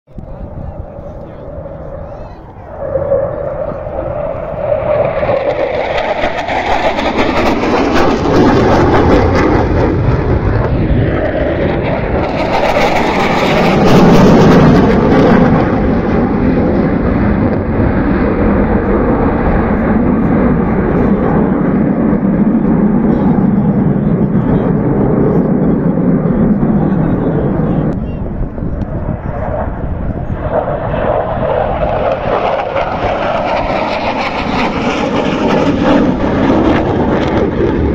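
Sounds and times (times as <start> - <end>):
jet engines roaring overhead: 0.1 - 37.9.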